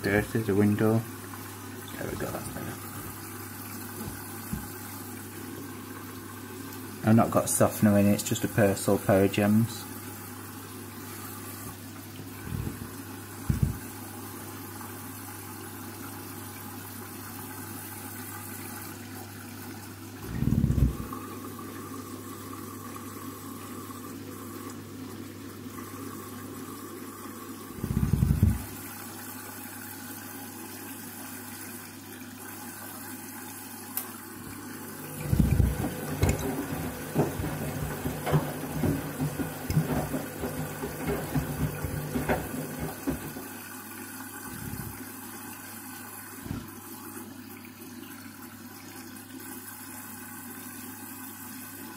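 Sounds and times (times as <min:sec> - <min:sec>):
water running into washing machine: 0:00.0 - 0:51.9.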